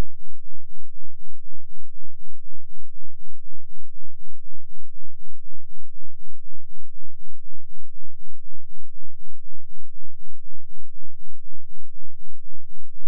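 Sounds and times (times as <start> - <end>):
deep pulsing bass tone: 0.0 - 13.0.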